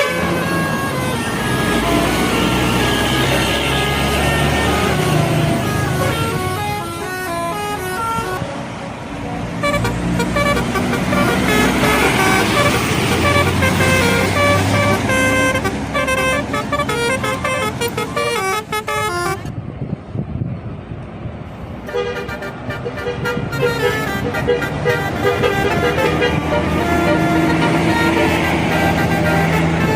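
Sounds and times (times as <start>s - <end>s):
multi-tone bus air horns: 0.0s - 8.6s, 9.6s - 19.5s, 21.8s - 29.9s
bus engines rumbling: 0.0s - 29.9s
traffic: 0.0s - 29.9s.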